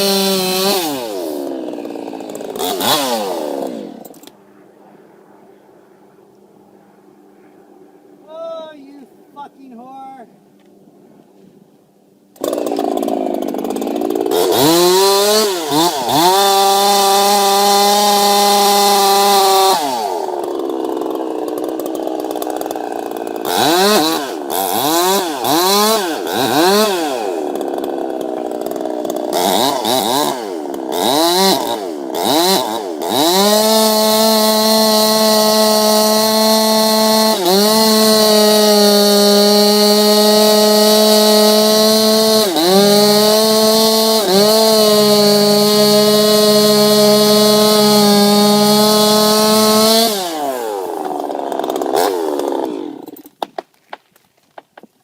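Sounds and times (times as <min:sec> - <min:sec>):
chainsaw engine revving: 0:00.0 - 0:04.4, 0:12.4 - 0:53.4.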